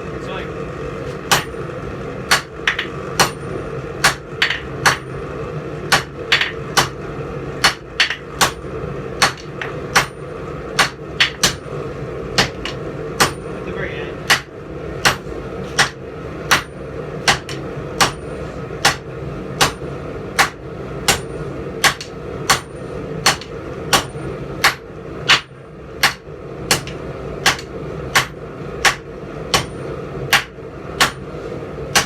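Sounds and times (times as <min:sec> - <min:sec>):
forging hammer striking steel on anvil: 0:01.2 - 0:01.7, 0:02.3 - 0:05.2, 0:05.9 - 0:11.7, 0:12.4 - 0:13.6, 0:14.2 - 0:32.0.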